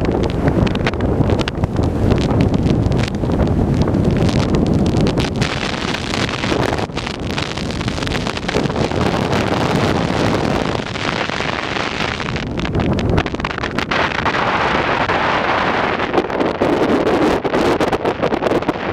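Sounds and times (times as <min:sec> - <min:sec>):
car road noise: 0:00.0 - 0:16.3
wind buffeting microphone: 0:00.0 - 0:18.9.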